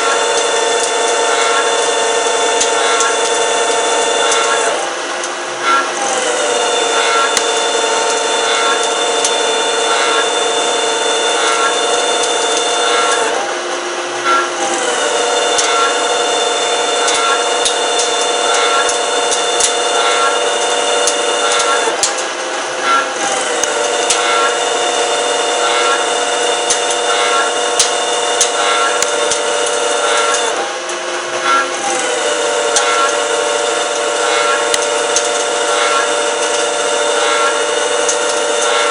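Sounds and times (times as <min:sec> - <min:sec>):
lathe whining and cutting: 0:00.0 - 0:38.9.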